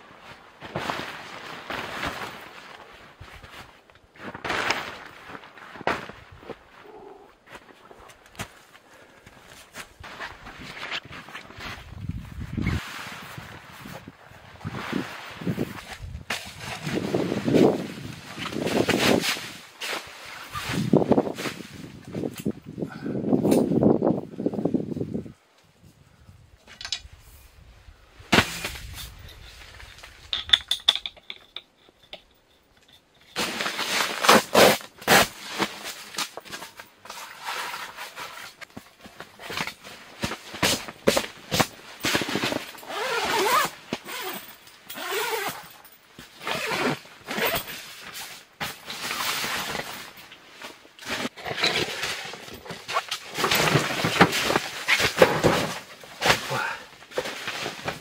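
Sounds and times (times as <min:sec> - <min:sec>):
tent fabric rustling: 0:00.0 - 0:22.7, 0:33.3 - 0:58.0.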